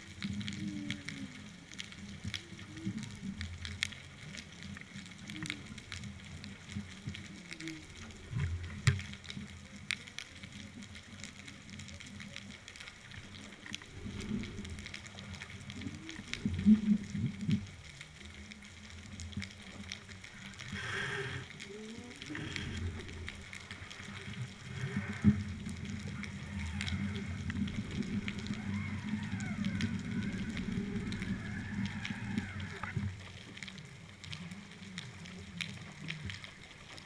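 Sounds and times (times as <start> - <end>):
underwater low rumble: 0.0 - 37.0.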